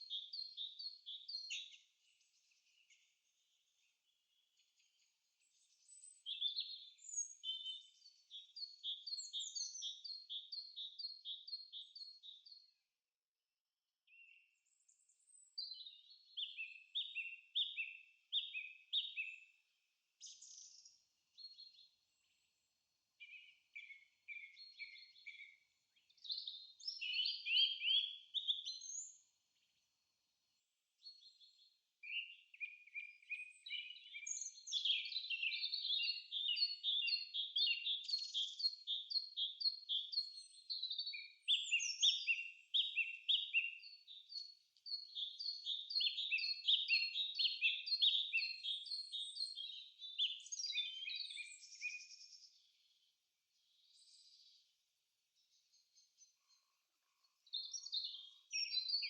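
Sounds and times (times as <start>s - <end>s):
songbirds singing: 0.0s - 13.0s, 14.0s - 59.0s.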